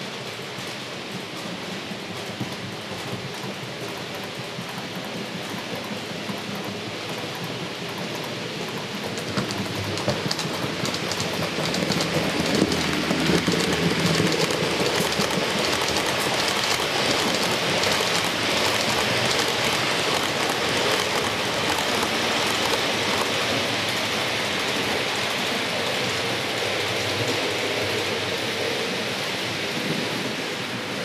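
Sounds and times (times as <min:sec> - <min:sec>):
clicking over rail joints: 0:00.2 - 0:28.8
model train wheels rattling: 0:01.4 - 0:28.8.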